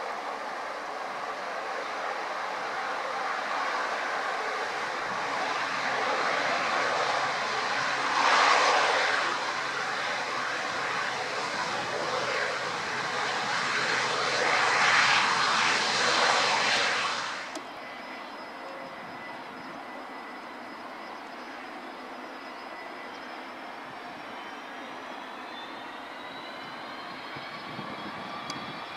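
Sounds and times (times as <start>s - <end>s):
faint high whine: 0.0s - 28.9s
turboprop engines rushing: 0.0s - 28.9s
turboprop plane on approach: 0.0s - 28.9s.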